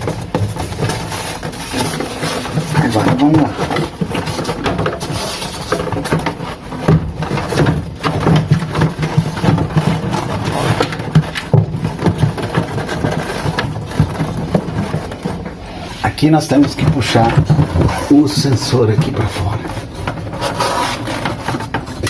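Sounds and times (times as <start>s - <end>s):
plastic parts clattering and knocking: 0.0s - 22.0s.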